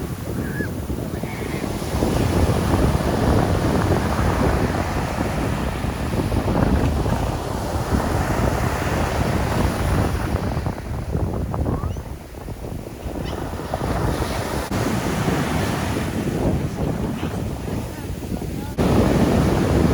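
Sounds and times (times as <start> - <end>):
heavy surf: 0.0 - 19.9
wind buffeting microphone: 0.0 - 19.9.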